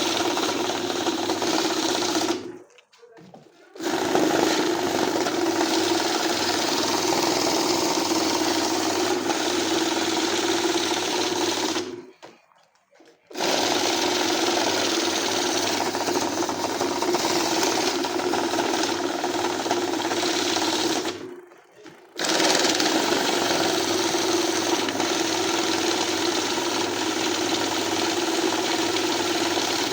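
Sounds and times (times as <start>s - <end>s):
banknote counting machine whirring: 0.0s - 2.6s, 3.8s - 12.1s, 13.3s - 29.9s.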